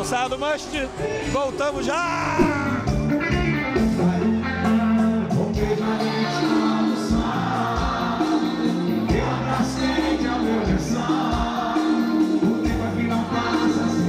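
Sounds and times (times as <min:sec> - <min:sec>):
live band music: 0:01.8 - 0:14.0.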